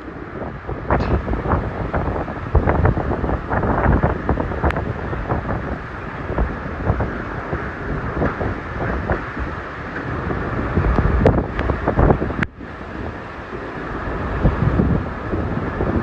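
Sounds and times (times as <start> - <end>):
heavy rain: 0.0 - 16.0
wind gusting on microphone: 0.0 - 16.0.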